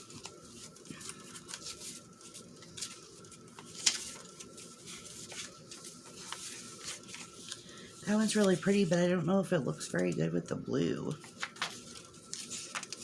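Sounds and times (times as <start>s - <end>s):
paper rustling: 0.0s - 10.2s, 11.1s - 13.0s.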